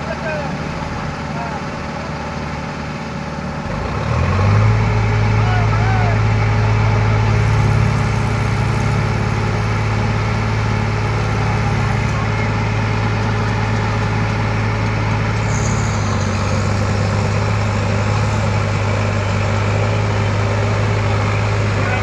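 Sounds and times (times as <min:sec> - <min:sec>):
tractor diesel engines droning: 0:00.0 - 0:22.0.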